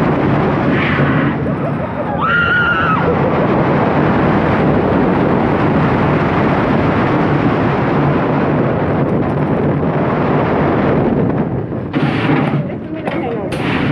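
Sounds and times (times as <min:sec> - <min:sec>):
roller coaster train rumble: 0:00.0 - 0:13.9
wind rushing over microphone: 0:00.0 - 0:13.9.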